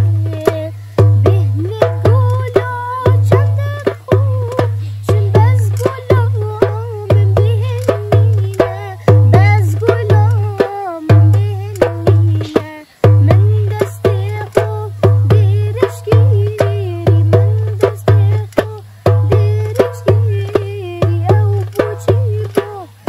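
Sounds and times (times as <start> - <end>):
goblet drum rhythm: 0.0 - 23.0.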